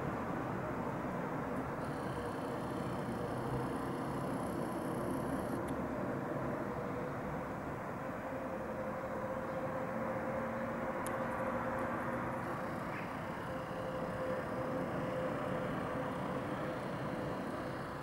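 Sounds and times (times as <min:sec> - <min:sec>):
distant city traffic hum: 0:00.0 - 0:18.0
faint continuous tone: 0:00.0 - 0:18.0.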